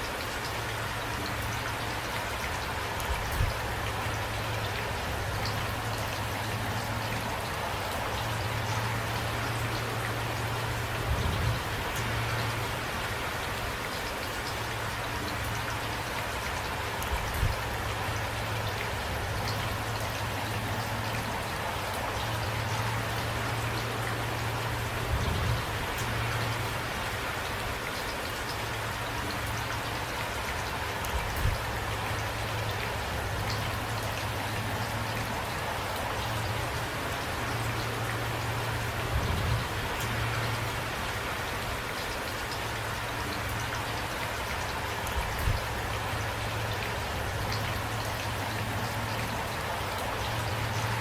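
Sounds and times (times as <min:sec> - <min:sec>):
steady rain patter: 0:00.0 - 0:51.0.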